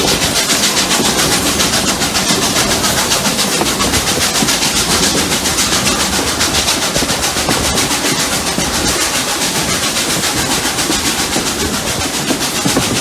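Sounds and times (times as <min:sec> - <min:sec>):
running train noise: 0:00.0 - 0:13.0
steam locomotive chuffing: 0:00.0 - 0:13.0.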